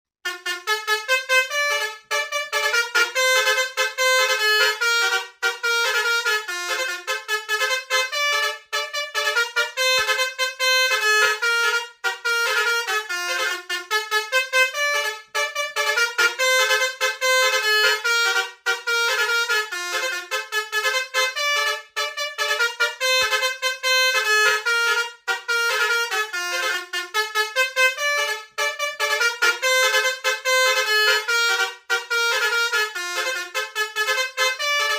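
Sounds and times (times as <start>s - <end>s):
bus horns playing a tune: 0.2s - 34.9s.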